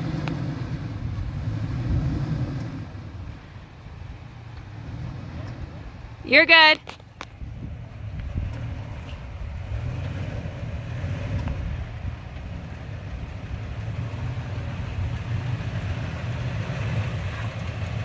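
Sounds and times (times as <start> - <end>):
truck engine running low: 0.0 - 18.0.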